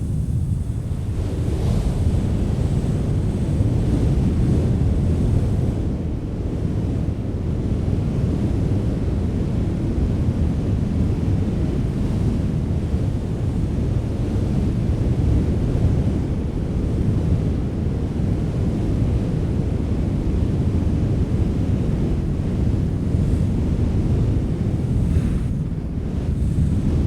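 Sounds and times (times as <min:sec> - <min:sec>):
strong wind blowing: 0:00.0 - 0:27.0.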